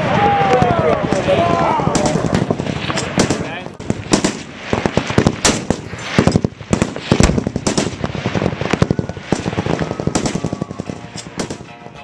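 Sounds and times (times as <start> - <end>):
machine-gun fire in bursts: 0.0 - 11.7.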